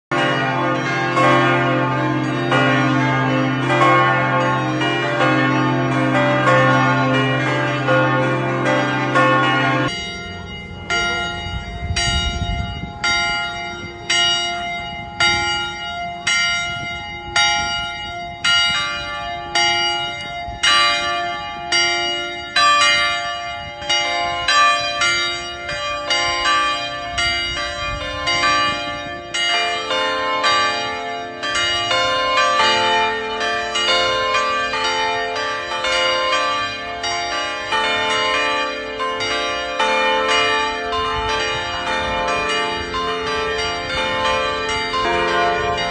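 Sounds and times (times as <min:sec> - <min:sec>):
church bells ringing: 0:00.1 - 0:45.9.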